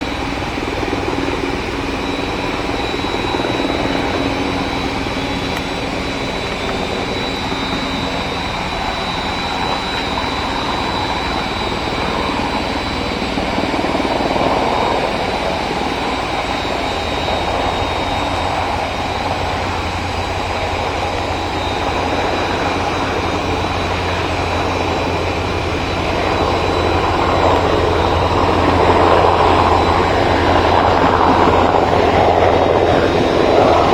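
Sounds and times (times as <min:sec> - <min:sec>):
helicopter rotor and turbine engine: 0:00.0 - 0:33.9.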